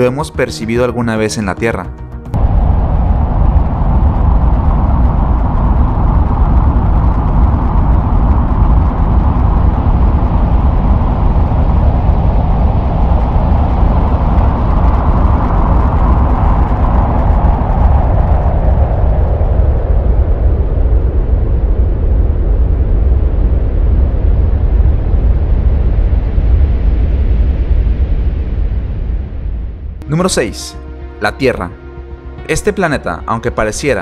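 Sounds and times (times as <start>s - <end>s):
deep wind rumble: 2.2s - 33.8s.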